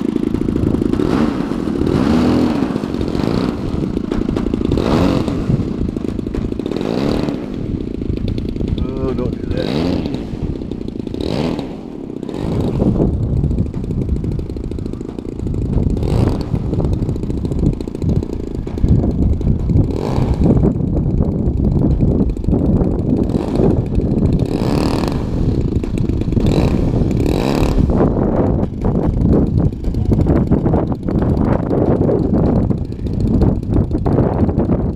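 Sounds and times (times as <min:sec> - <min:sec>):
model plane engine: 0:00.0 - 0:34.9
wind buffeting microphone: 0:00.0 - 0:34.9.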